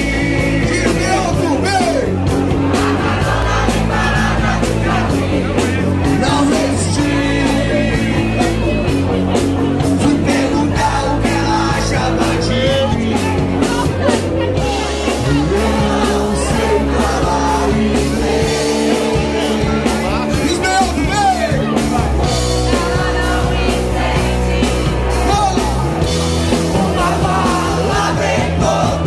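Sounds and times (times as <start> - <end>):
man singing: 0.0 - 9.1, 9.7 - 25.9, 26.5 - 29.0
live rock band playing: 0.0 - 29.0.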